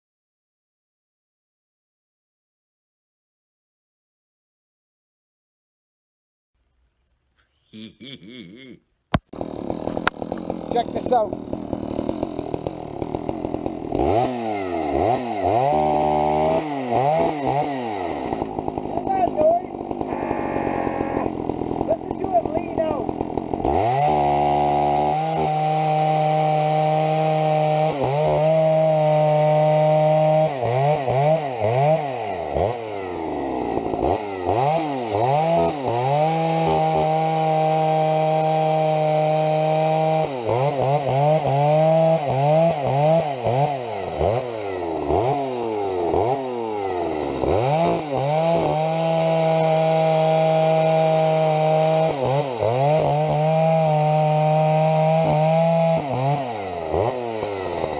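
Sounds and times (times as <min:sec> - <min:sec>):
chainsaw at full throttle: 0:09.3 - 0:57.9.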